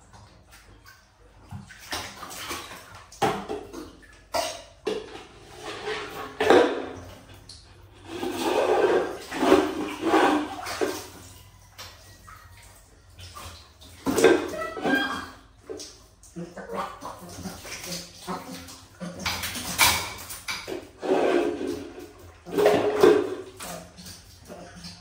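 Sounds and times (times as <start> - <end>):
water splashing in a bath: 0.0 - 25.0.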